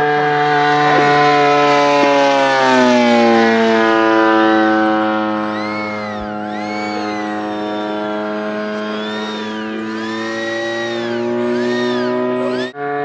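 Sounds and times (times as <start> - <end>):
model plane engine flying past: 0.0 - 13.0.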